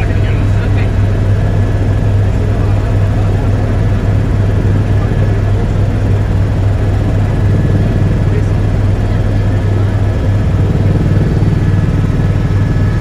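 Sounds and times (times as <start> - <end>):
constant low hum: 0.0 - 13.0
helicopter engine and rotors droning: 0.0 - 13.0.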